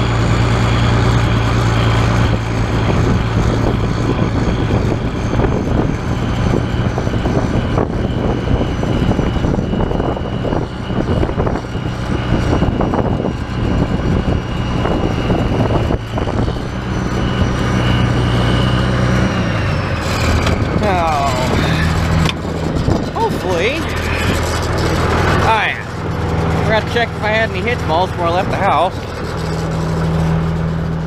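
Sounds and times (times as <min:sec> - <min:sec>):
high whine: 0:00.0 - 0:31.0
tractor engine running: 0:00.0 - 0:31.0.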